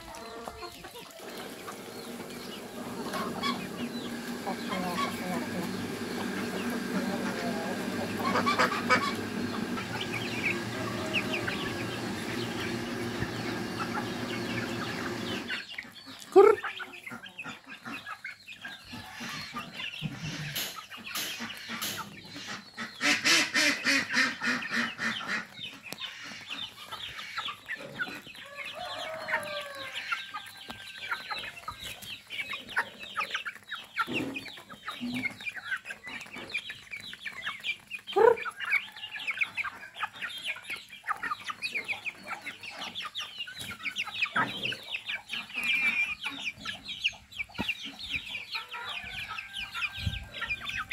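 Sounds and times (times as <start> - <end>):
beaks pecking on concrete: 0.0 - 50.9
chickens clucking: 0.0 - 50.9.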